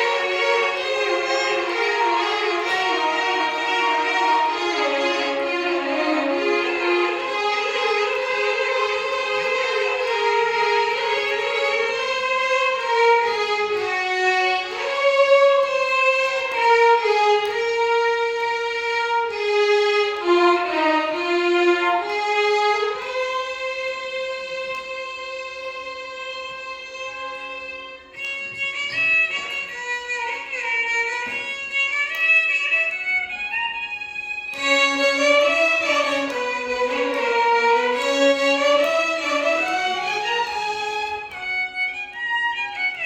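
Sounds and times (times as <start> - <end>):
violins playing a melody: 0.0 - 43.0.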